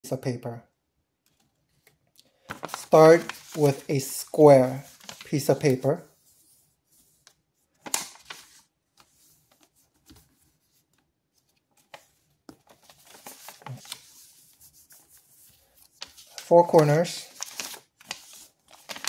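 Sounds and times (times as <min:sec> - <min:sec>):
paper rustling and folding: 0:01.3 - 0:19.0.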